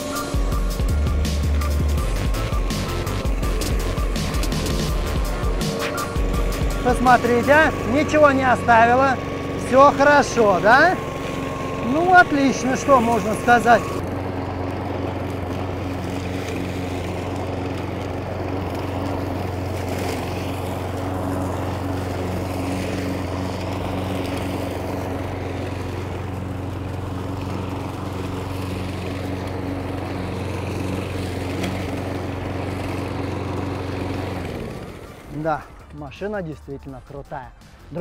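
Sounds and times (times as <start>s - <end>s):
lawn mower engine humming: 0.0s - 38.0s.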